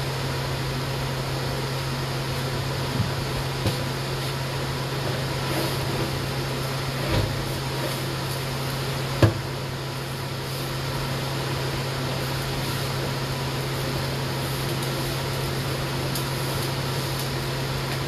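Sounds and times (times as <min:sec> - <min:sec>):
steady machine hum with hiss: 0:00.0 - 0:18.0.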